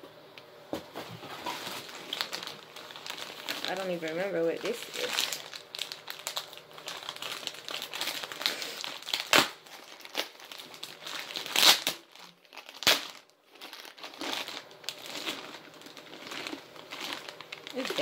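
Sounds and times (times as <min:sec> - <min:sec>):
plastic bag crinkling: 0:01.2 - 0:18.0
sharp plastic crackles: 0:01.2 - 0:18.0.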